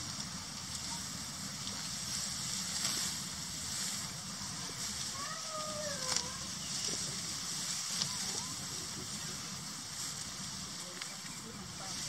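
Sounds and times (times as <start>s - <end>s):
dry straw rustling and crackling: 0.0s - 12.0s.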